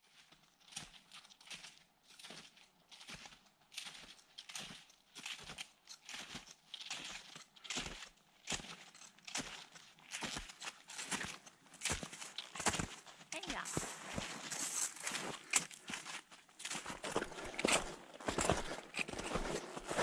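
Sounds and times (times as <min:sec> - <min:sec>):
footsteps crunching on hard snow: 0:00.3 - 0:20.0.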